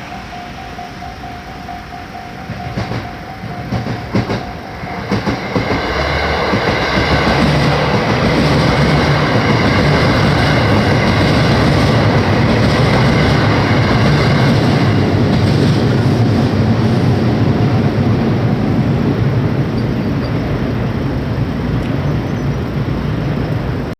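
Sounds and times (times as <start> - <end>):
steady high tones: 0.0 - 21.1
train wheels rushing: 0.0 - 23.9.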